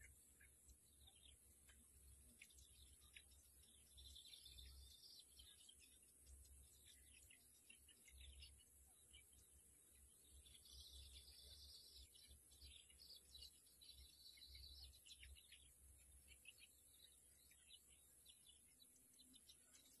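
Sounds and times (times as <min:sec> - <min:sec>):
faint bird chirps and trills: 0:00.0 - 0:20.0.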